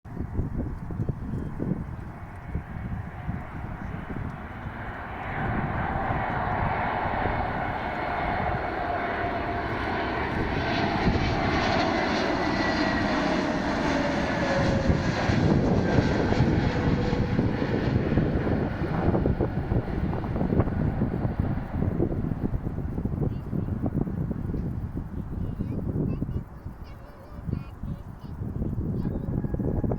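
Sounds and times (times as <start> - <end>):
jetliner passing with rumble and whine: 0.1 - 29.9.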